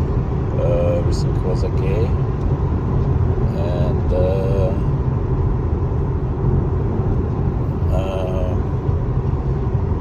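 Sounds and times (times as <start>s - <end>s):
road rumble inside moving car: 0.0s - 10.0s.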